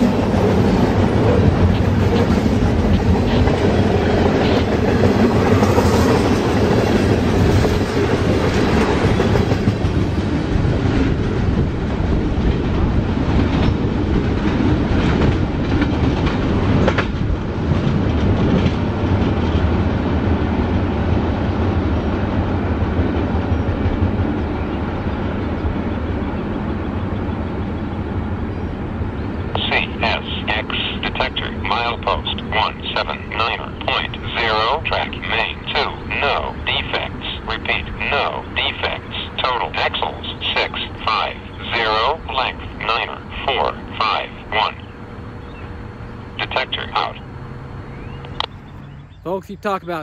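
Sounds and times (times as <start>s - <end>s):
freight train passing: 0.0s - 50.0s.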